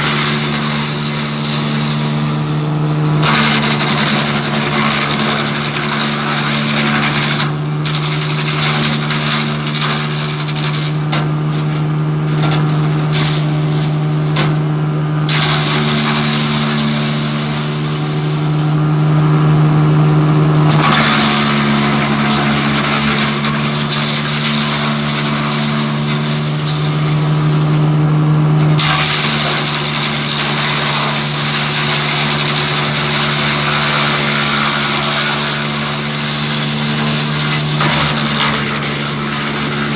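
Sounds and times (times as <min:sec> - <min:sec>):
wood being chipped grinding: 0:00.0 - 0:39.9
wood chipper running: 0:00.0 - 0:39.9.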